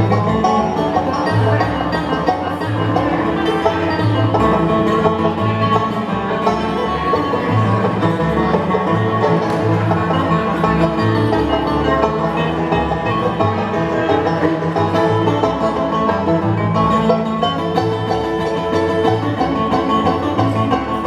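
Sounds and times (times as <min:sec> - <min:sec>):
acoustic guitar: 0:00.0 - 0:21.0
rapid banjo picking: 0:00.0 - 0:21.0
walking upright bass: 0:00.0 - 0:21.0.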